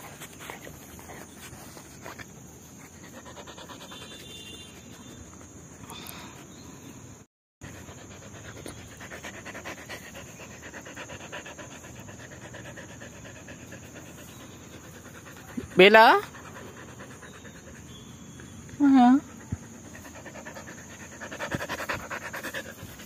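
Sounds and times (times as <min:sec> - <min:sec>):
dog panting: 0:00.0 - 0:04.6, 0:07.6 - 0:18.4, 0:19.2 - 0:23.0.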